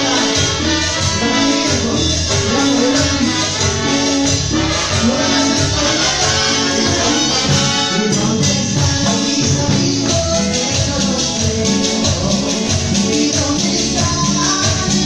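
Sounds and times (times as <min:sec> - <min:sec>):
latin band playing dance music: 0:00.0 - 0:15.0
person singing into microphone: 0:00.0 - 0:15.0.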